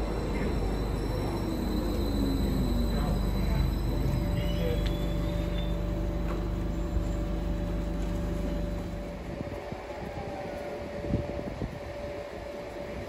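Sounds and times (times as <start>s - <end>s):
electric train humming: 0.0s - 13.0s
station background noise: 0.0s - 13.0s.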